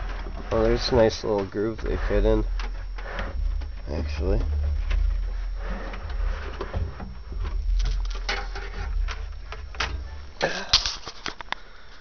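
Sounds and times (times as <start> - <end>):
low steady rumble: 0.0 - 11.2
handling knocks and clicks: 0.0 - 11.6.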